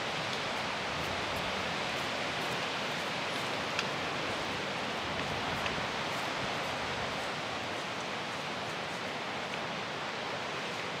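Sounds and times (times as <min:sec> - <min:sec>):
strong wind through trees: 0:00.0 - 0:11.0.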